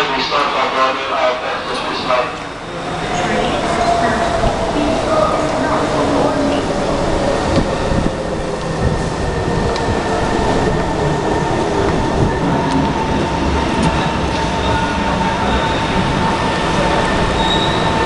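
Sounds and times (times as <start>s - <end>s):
steady train whine: 0.0s - 18.0s
train wheels rumbling on rails: 1.5s - 18.0s.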